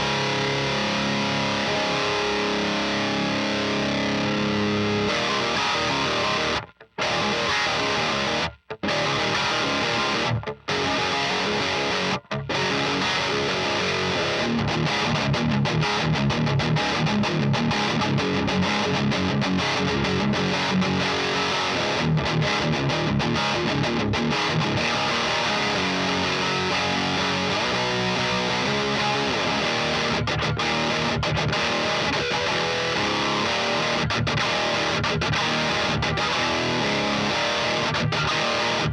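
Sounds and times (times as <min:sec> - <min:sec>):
distorted electric guitar riff: 0:00.0 - 0:38.9.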